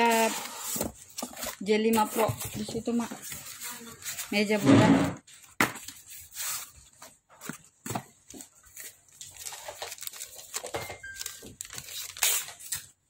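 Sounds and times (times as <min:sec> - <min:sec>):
cardboard and paper rustling: 0:00.0 - 0:04.6, 0:05.3 - 0:13.0.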